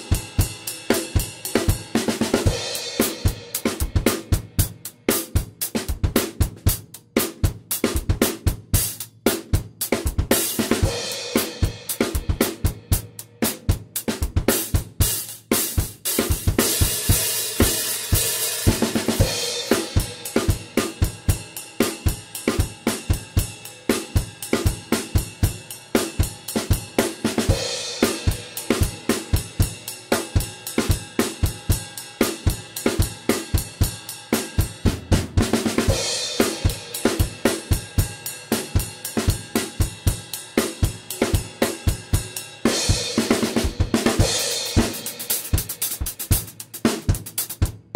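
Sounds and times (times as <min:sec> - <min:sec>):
drum kit groove: 0:00.0 - 0:47.9.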